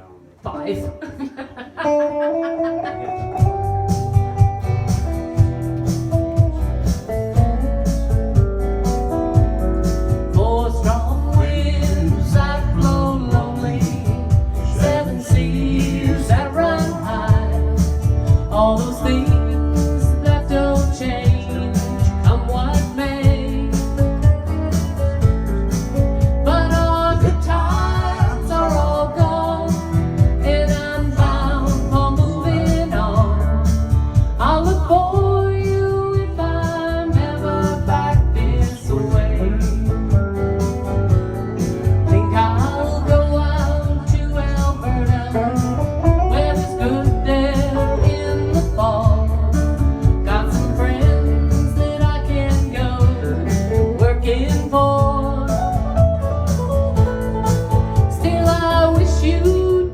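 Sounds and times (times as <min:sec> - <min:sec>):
guitar accompaniment: 0:00.0 - 0:59.9
person singing: 0:09.3 - 0:25.1, 0:26.2 - 0:40.8, 0:42.0 - 0:59.9.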